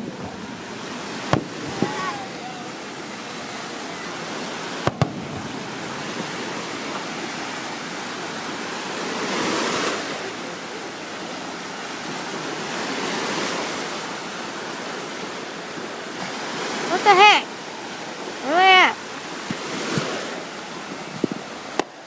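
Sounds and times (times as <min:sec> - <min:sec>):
ocean surf washing ashore: 0:00.0 - 0:22.0.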